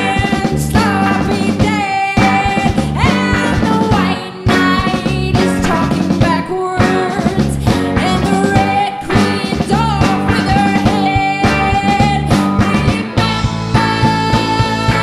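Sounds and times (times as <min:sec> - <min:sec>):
bass guitar: 0:00.0 - 0:15.0
drum kit: 0:00.0 - 0:15.0
electric guitars: 0:00.0 - 0:15.0
woman singing lead: 0:00.0 - 0:15.0.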